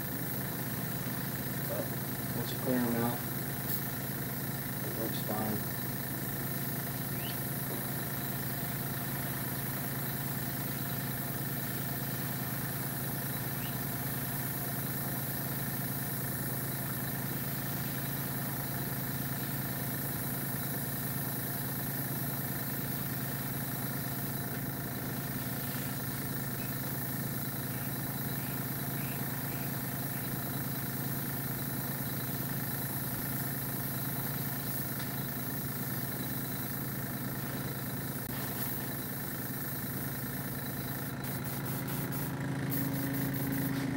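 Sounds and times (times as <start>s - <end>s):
airbrush compressor humming: 0.0s - 43.9s.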